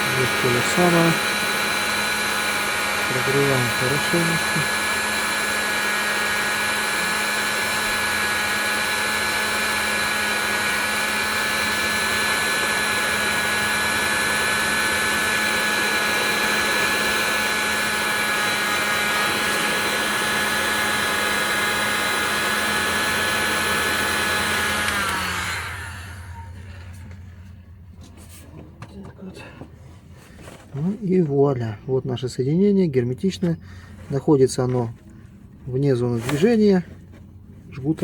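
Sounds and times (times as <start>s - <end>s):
heat gun fan whining: 0.0s - 28.8s, 33.2s - 38.0s.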